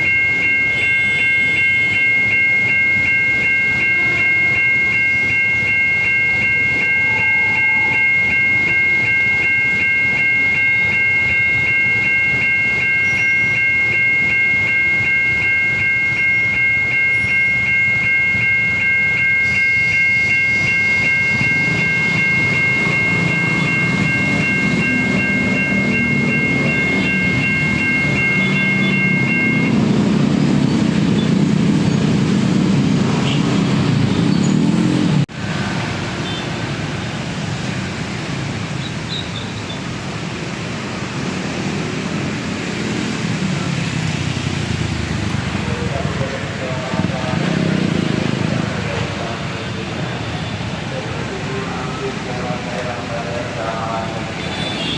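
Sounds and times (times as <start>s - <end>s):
level crossing warning bell: 0.0s - 54.9s.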